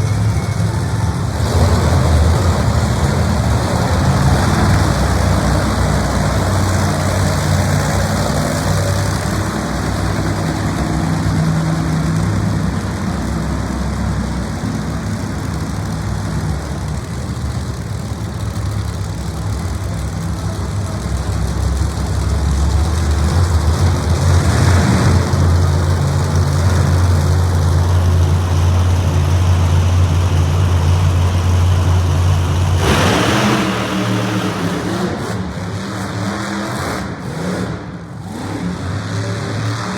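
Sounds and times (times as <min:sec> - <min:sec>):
deeper steady engine note: 0:00.0 - 0:39.9
monster truck engine running: 0:00.0 - 0:39.9.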